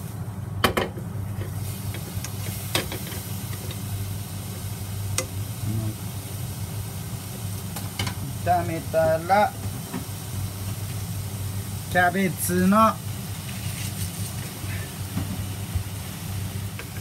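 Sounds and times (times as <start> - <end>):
chicken sizzling in pan: 1.2 - 17.0.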